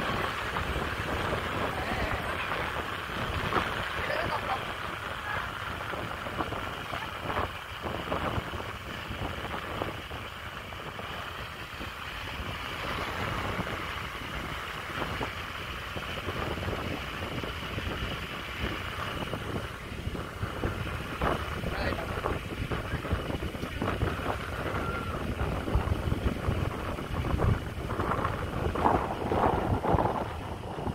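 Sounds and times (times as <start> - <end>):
scooter engine running: 0.0 - 30.9
wind buffeting microphone: 0.0 - 30.9.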